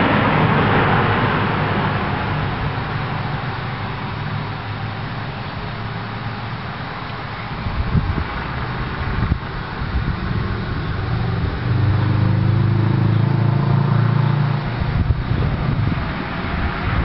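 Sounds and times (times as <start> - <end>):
car driving past: 0.0 - 6.7, 9.8 - 17.0.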